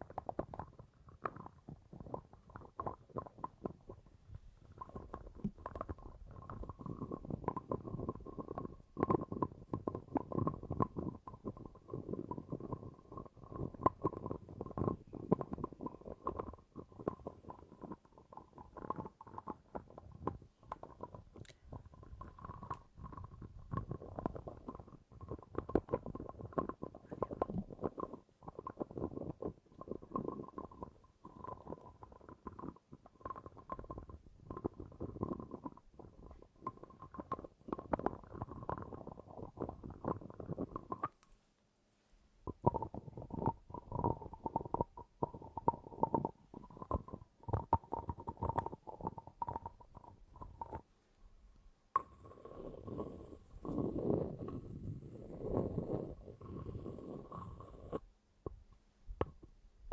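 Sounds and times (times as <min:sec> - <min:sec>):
low gurgling and rumbling: 0:00.0 - 0:41.2, 0:42.4 - 0:50.8, 0:52.0 - 0:58.0.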